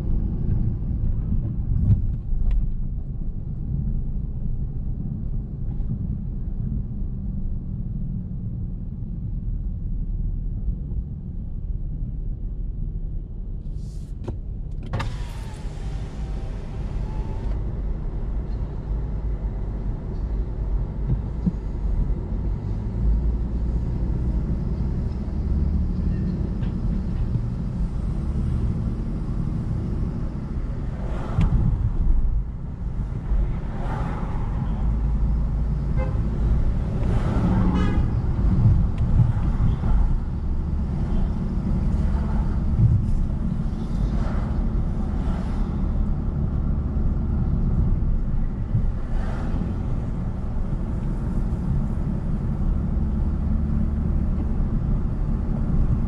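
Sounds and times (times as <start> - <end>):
car engine and tyre noise: 0.0 - 56.0
traffic noises: 0.0 - 56.0.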